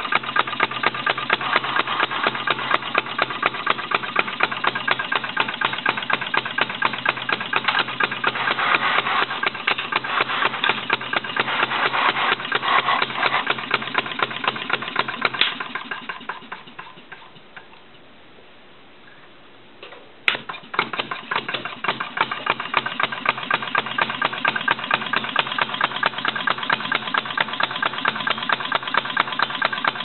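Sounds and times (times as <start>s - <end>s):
gasoline engine popping: 0.0s - 17.9s, 19.9s - 30.0s.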